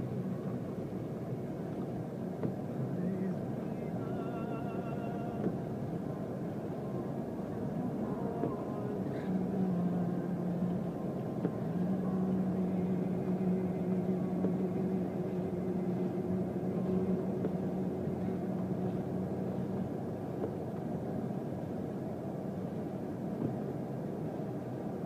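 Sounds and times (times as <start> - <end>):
motor hum: 0.0 - 25.0.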